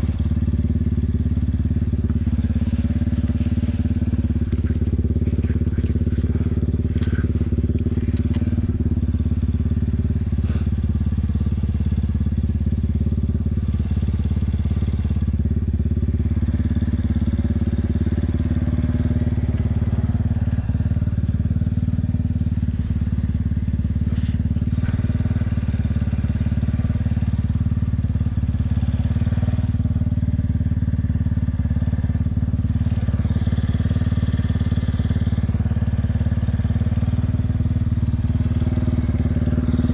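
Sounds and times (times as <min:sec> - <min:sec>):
quad engine running: 0:00.0 - 0:39.9.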